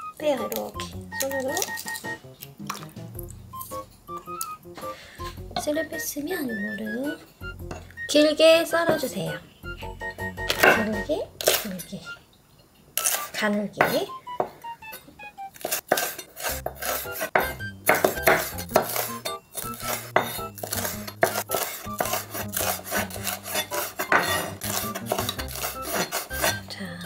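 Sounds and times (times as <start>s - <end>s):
soft background music: 0.0s - 12.3s, 13.0s - 27.0s.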